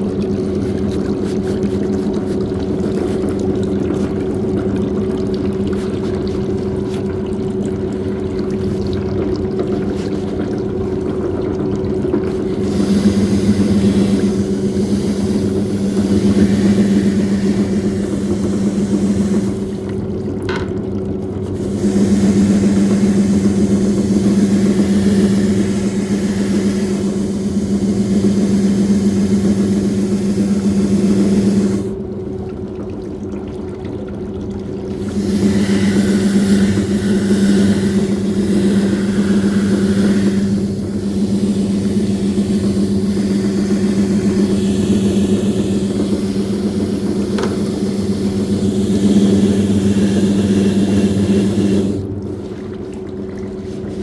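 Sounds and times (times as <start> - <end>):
water sloshing: 0.0 - 30.4, 31.0 - 54.0
washing machine motor humming: 0.0 - 54.0.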